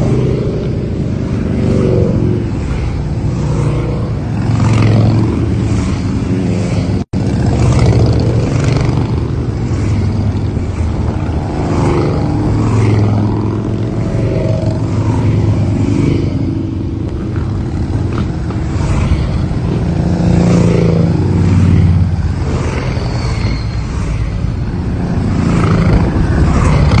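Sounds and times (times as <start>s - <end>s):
motorcycles riding past: 0.0s - 27.0s.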